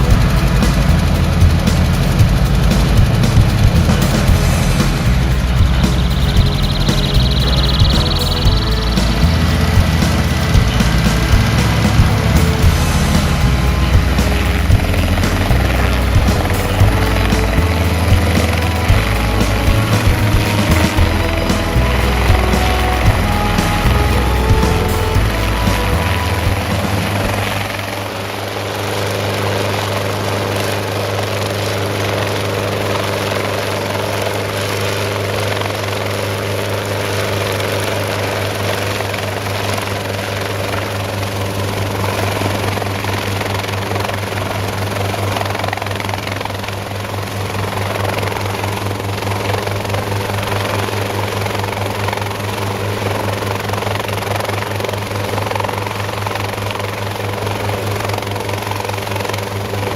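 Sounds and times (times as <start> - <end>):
helicopter engine droning: 0.0 - 59.9
helicopter rotor beat: 0.0 - 59.9.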